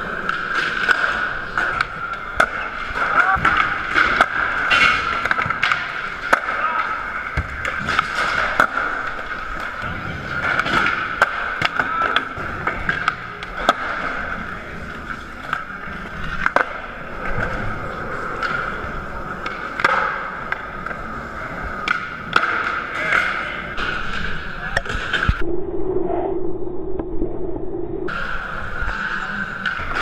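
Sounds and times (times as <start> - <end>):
skateboard clacks: 0.0 - 25.4
skateboard wheels rolling: 0.0 - 25.4.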